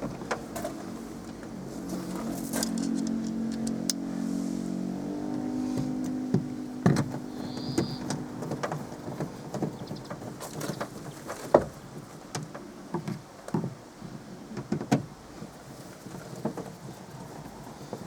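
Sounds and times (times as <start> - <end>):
engine hum: 0.0 - 18.0.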